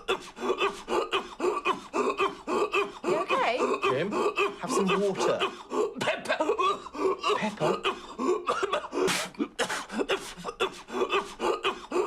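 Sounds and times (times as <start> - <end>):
man coughing: 0.0 - 12.0.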